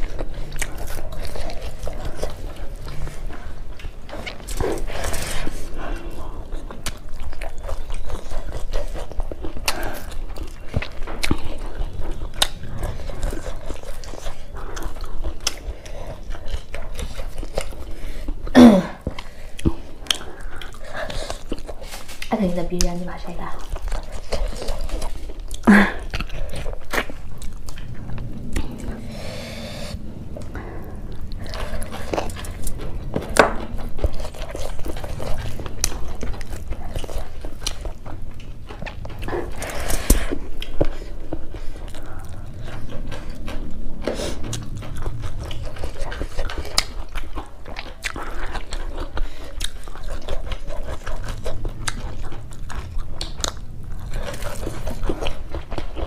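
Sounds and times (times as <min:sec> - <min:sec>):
people chewing food: 0:00.0 - 0:56.0.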